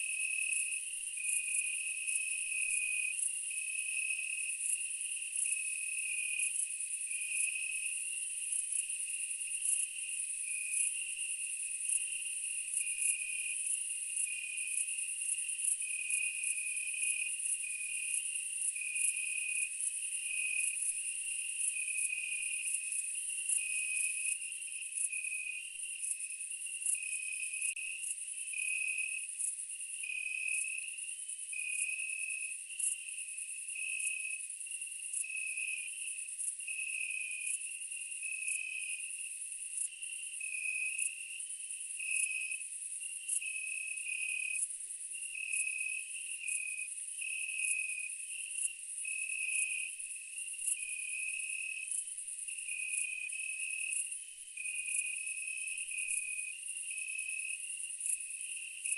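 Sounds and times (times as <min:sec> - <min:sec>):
insect chirp pulsing: 0:00.2 - 0:58.9.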